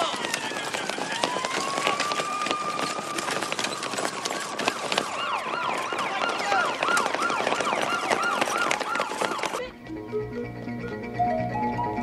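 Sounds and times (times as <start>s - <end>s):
emergency vehicle siren: 0.0s - 9.7s.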